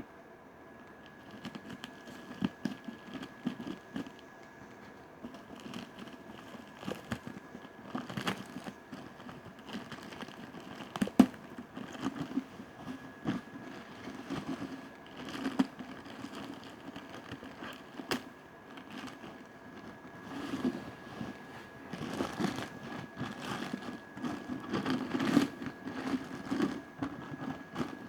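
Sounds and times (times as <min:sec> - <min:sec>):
packaging crinkling and rustling: 0:00.9 - 0:28.0.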